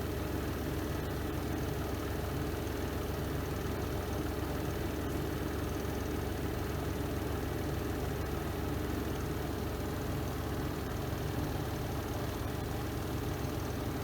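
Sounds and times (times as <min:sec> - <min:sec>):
washing machine spinning hum: 0:00.0 - 0:14.0.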